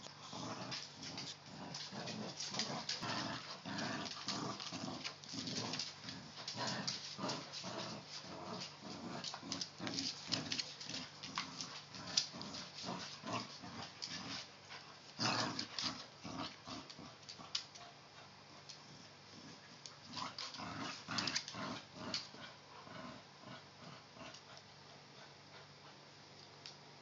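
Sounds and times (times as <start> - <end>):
dogs growling playfully: 0.0 - 17.8, 18.4 - 25.9.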